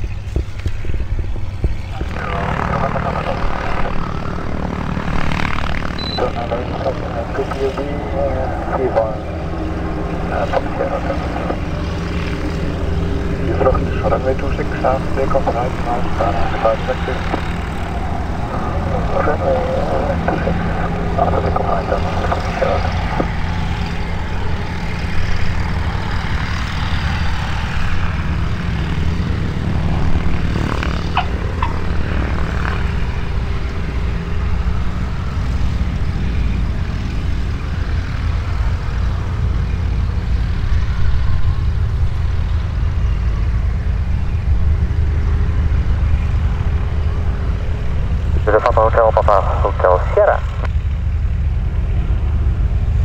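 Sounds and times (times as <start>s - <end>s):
propeller aircraft engine: 0.0s - 53.0s.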